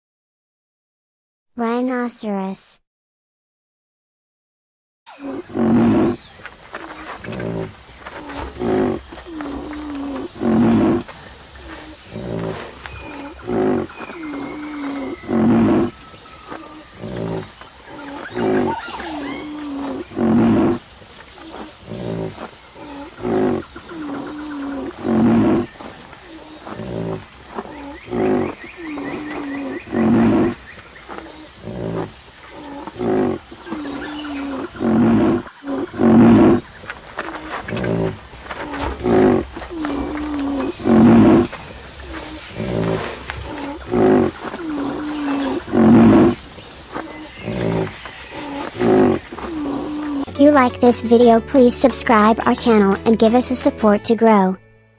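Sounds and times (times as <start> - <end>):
rhinoceros calling: 5.1 - 51.2.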